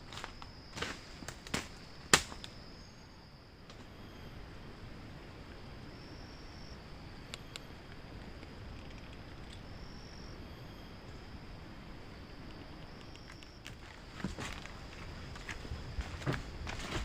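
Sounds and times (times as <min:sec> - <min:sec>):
insects droning high: 0:00.0 - 0:17.0
low rustling hiss: 0:00.0 - 0:17.0.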